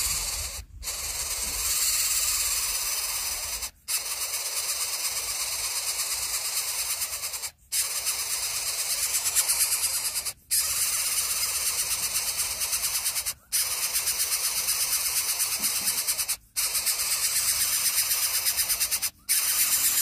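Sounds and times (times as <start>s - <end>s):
nestling bird hissing calls: 0.0s - 20.0s.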